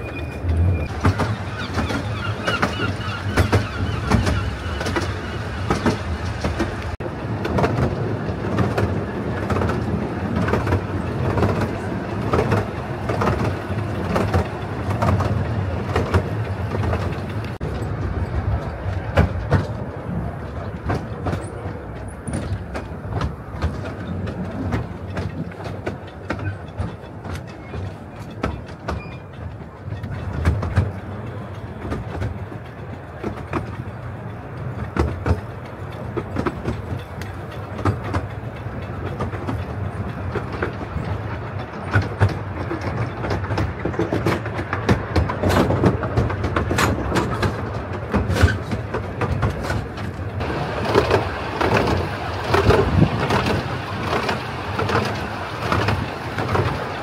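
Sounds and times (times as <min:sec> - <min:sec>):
train rumble: 0:00.0 - 0:57.0
wheels clattering on rails: 0:00.0 - 0:57.0.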